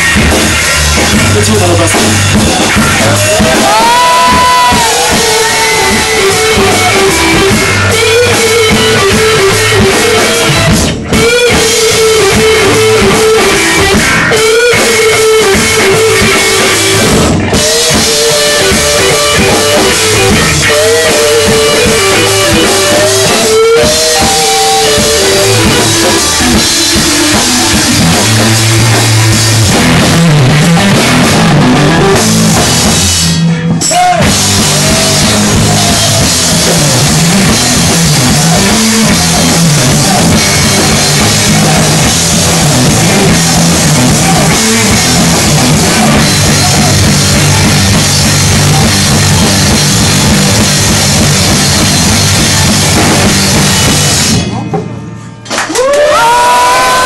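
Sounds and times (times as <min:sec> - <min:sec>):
sliding lead guitar melody: 0:00.0 - 0:55.2
rock band playing loud: 0:00.0 - 0:57.0.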